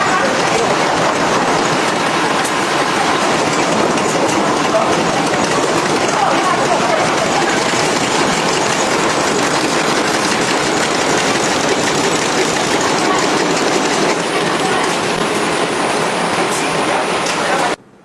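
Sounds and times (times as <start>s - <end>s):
machinery rattling: 0.0s - 17.8s.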